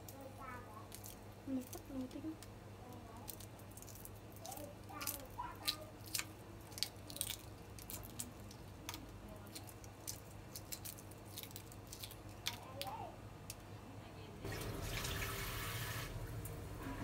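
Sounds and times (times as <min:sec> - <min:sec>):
eggshell cracking: 0:00.0 - 0:13.7.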